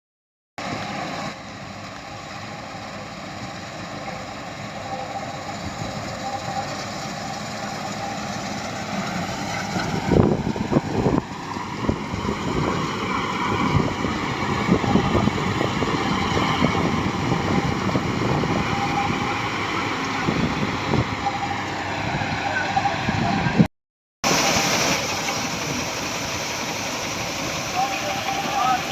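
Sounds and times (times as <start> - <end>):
combine harvester engine running: 0.6 - 28.9.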